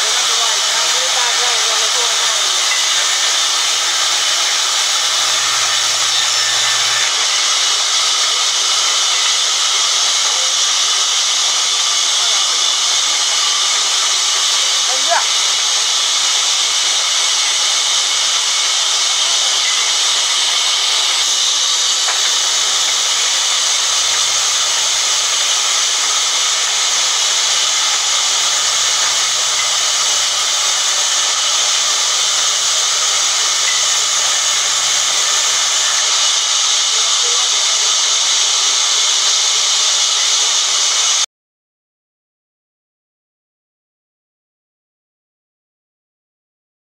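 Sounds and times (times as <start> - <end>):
band saw ripping timber: 0.0 - 37.8.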